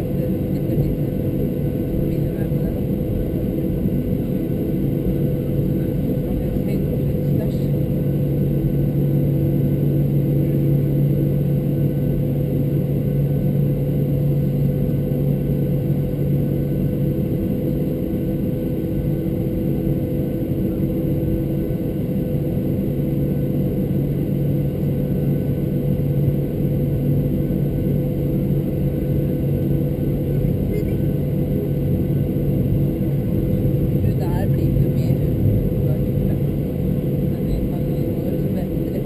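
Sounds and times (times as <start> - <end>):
jet engines idling in cabin: 0.0 - 39.0.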